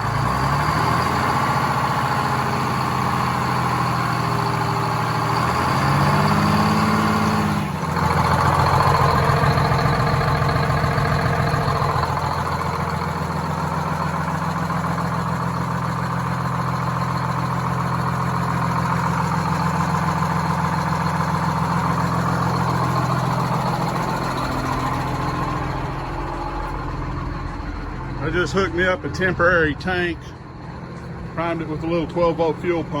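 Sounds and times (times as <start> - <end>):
diesel bus engine idling: 0.0 - 33.0.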